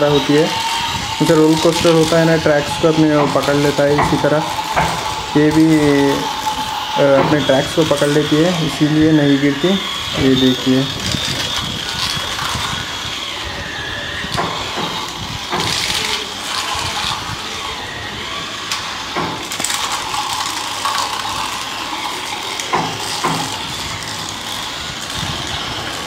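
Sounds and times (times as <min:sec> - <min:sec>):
toy train motor whirring: 0:00.0 - 0:26.0.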